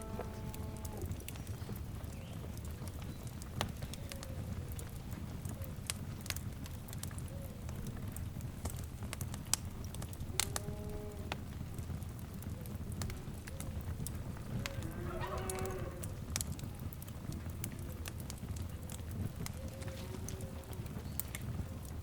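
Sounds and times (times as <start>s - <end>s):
fire crackles and pops: 0.0s - 22.0s
wood fire rumbling: 0.0s - 22.0s.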